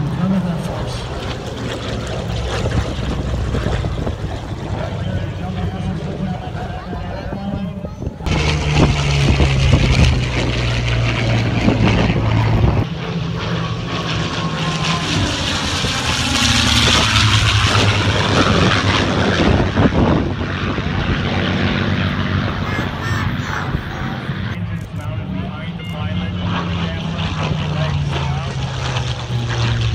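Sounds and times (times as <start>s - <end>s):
propeller planes flying past: 0.0s - 29.9s.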